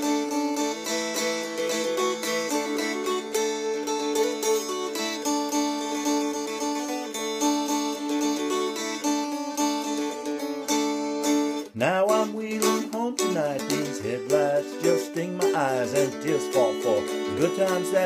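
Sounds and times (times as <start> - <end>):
mountain dulcimer strumming: 0.0 - 18.0.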